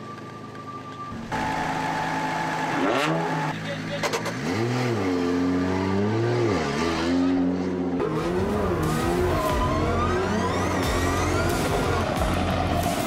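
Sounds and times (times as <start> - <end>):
car engine revving: 1.2 - 13.0.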